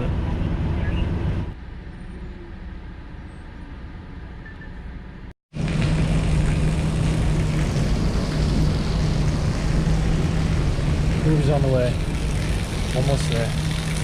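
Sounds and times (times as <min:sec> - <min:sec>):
vehicle road noise and engine drone: 0:00.0 - 0:14.0.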